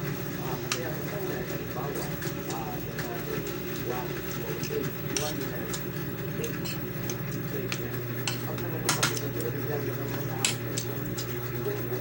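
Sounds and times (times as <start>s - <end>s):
steady low hum: 0.0s - 12.0s
utensils clinking on a plate: 0.6s - 11.4s.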